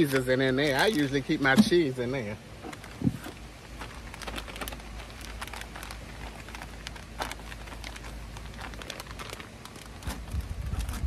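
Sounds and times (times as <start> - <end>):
low steady rumble: 0.0 - 11.0
plastic packaging crinkling: 0.0 - 11.0.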